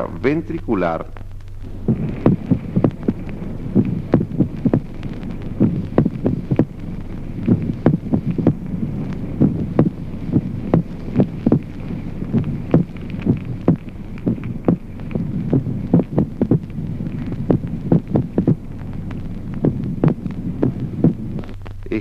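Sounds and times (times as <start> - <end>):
heartbeat lub-dub: 0.0 - 22.0
steady low hum: 0.0 - 22.0.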